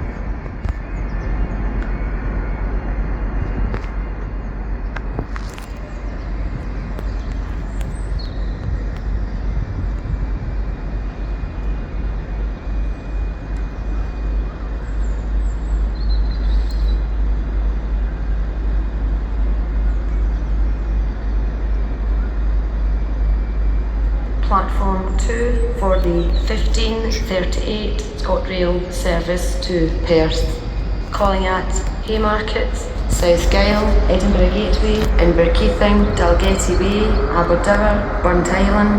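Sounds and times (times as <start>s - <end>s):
high train squeals: 0.0s - 38.9s
train rumbling: 0.0s - 38.9s.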